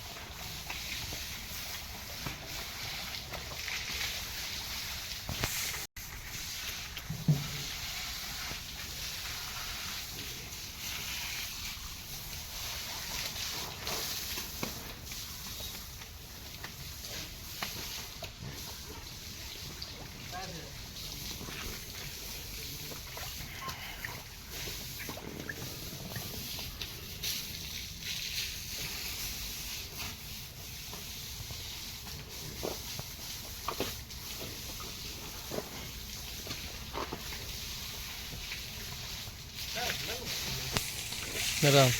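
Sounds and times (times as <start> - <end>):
water spraying hiss: 0.0 - 41.9.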